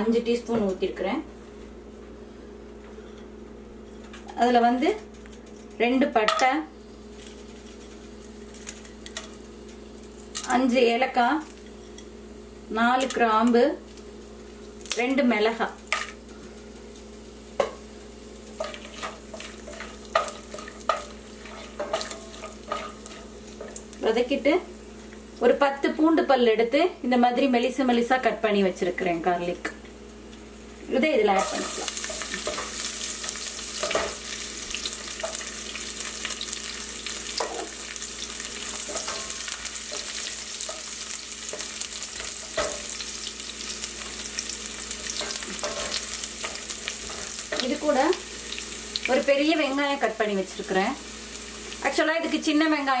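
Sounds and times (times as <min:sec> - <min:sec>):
spices sizzling in hot oil: 0:06.1 - 0:26.6, 0:27.3 - 0:53.0.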